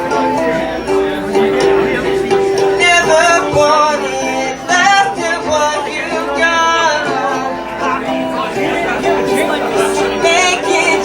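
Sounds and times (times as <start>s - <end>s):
acoustic string instrument chords: 0.0s - 11.0s
person singing: 0.0s - 11.0s.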